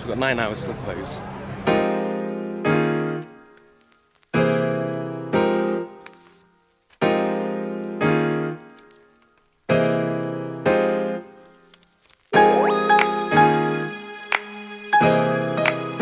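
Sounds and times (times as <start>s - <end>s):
piano chords: 1.4s - 6.4s, 7.0s - 11.7s, 12.3s - 16.0s.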